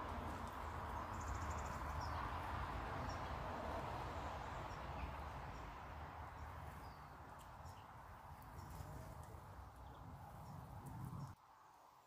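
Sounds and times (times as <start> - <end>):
birds chirping: 0.0 - 11.4.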